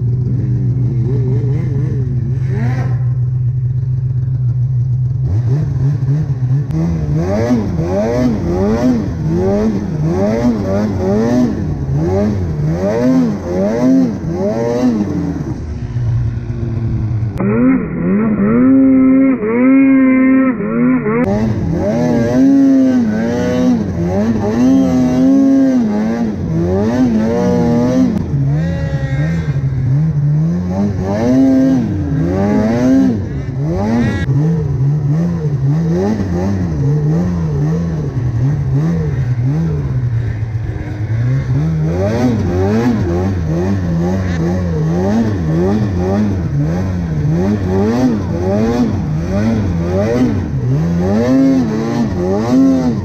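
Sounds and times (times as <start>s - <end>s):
snowmobile engine revving: 0.0s - 53.0s.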